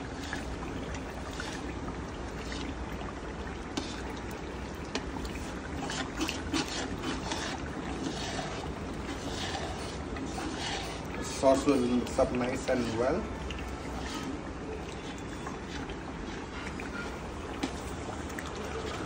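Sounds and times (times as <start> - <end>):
spoon stirring sloshing sauce: 0.1 - 19.0.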